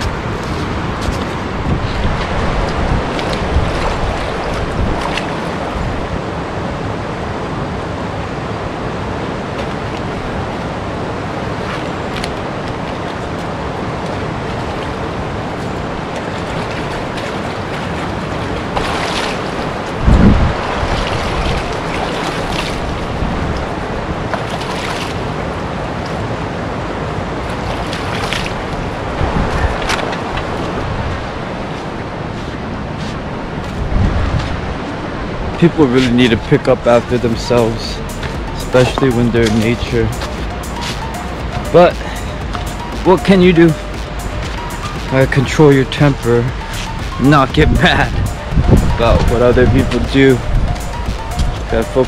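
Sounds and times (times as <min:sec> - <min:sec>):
river running over rocks: 0:00.0 - 0:52.0.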